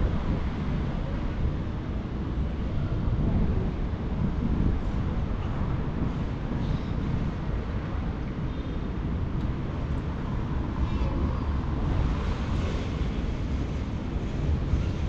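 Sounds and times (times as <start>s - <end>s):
city ambience with vehicle noise: 0.0s - 15.0s.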